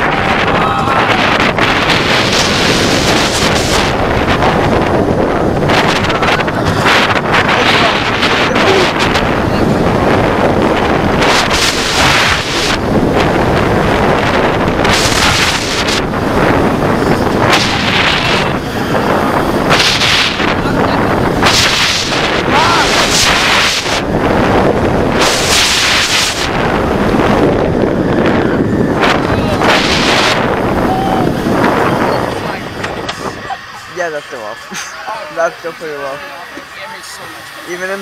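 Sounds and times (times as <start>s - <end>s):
wind noise on microphone: 0.0s - 34.1s
roller coaster train rumbling: 0.0s - 38.0s.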